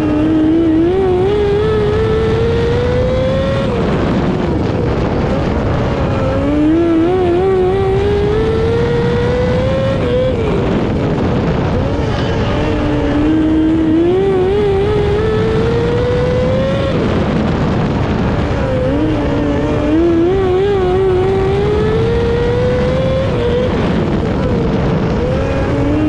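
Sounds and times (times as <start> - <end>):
heavy low rumble: 0.0 - 26.0
racing car engine revving: 0.0 - 26.0.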